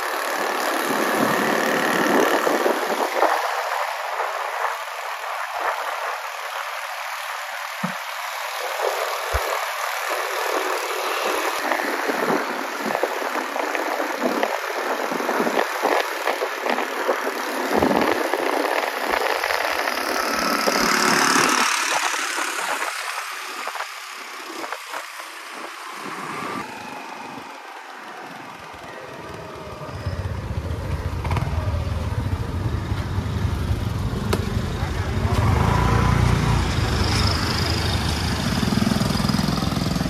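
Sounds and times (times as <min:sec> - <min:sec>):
motorbike engines running: 0:00.0 - 0:40.0
wind and road noise: 0:00.0 - 0:40.0.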